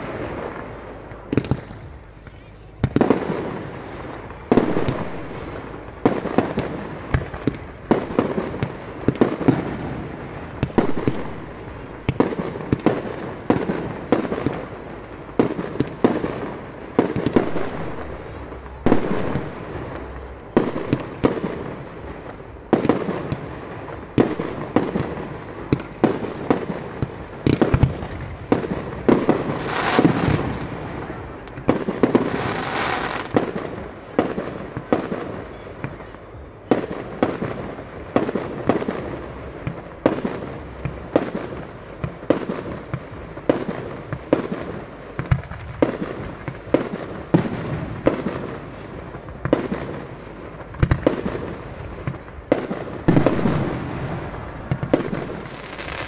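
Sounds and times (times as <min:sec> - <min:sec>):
fireworks bangs: 0:00.0 - 0:56.0
fireworks hiss: 0:00.0 - 0:56.0.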